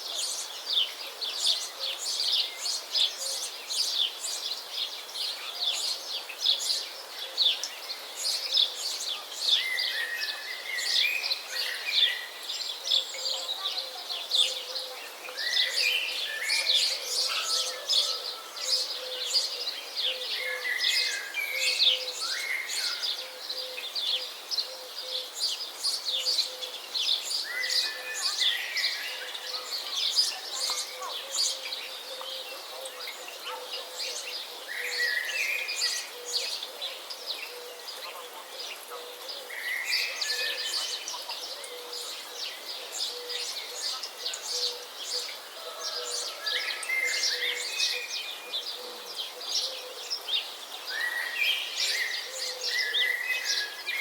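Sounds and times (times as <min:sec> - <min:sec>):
birds chirping: 0:00.0 - 0:54.0
lower warbled bird phrases: 0:00.0 - 0:54.0.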